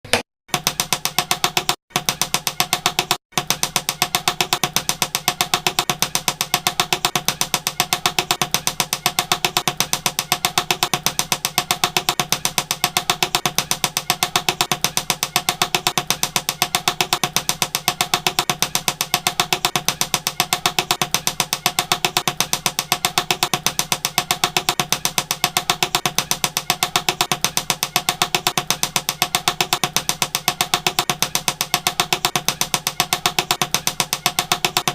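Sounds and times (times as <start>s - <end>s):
rapid tapping: 0.1s - 34.9s.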